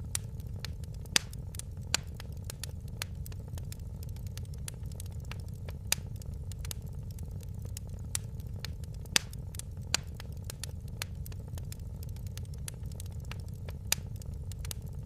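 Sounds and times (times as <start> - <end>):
fire pops and snaps: 0.0 - 15.0
steady low rumble: 0.0 - 15.0
wood fire crackling: 0.0 - 15.0.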